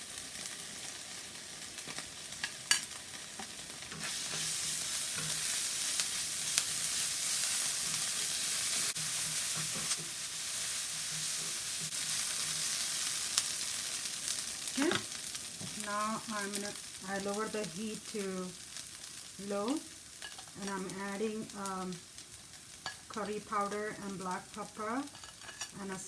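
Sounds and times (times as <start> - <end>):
onion sizzling in hot oil: 0.0 - 26.0
utensil stirring and scraping pan: 1.8 - 17.6, 18.8 - 21.5, 22.2 - 26.0.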